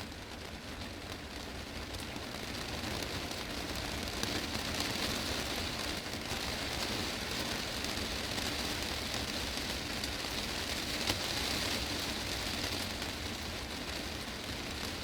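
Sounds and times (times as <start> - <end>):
heavy rain on a glass roof: 0.0 - 15.0.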